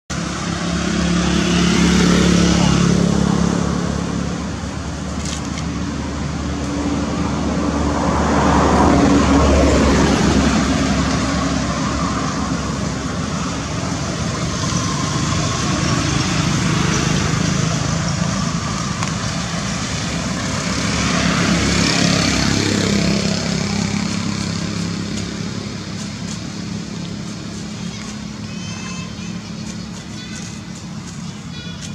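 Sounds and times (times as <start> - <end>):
road traffic: 0.1 - 31.9
vehicle passing: 0.1 - 31.9.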